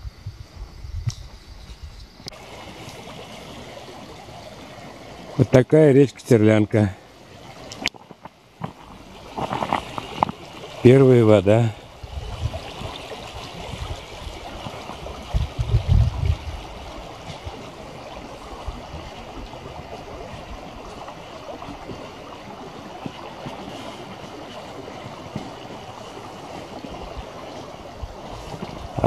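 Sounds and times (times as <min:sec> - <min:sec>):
river water flowing: 0:00.1 - 0:29.0.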